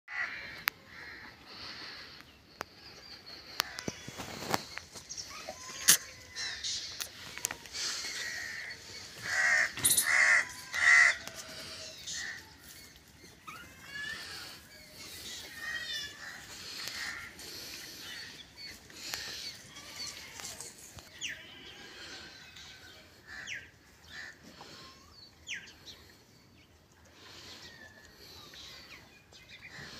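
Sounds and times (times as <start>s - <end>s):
birds calling: 0.1s - 26.2s, 27.1s - 29.9s.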